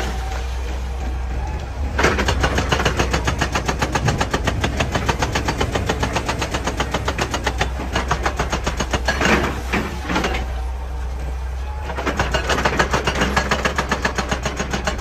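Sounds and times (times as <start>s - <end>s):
excavator engine running: 0.0s - 15.0s
hydraulic breaker hammering rock: 0.0s - 15.0s.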